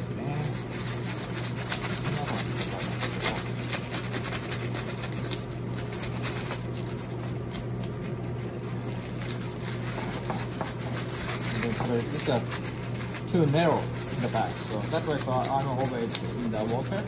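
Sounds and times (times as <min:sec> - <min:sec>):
fish scaler rasping: 0:00.0 - 0:17.0
plastic bag crinkling: 0:00.2 - 0:17.0.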